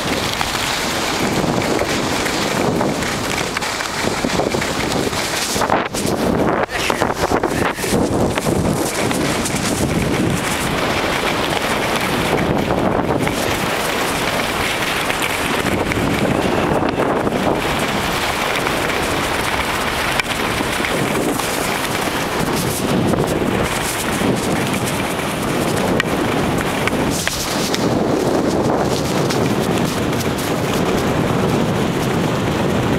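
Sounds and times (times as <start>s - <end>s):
skis sliding over snow: 0.0s - 32.9s
wind buffeting microphone: 0.0s - 32.9s.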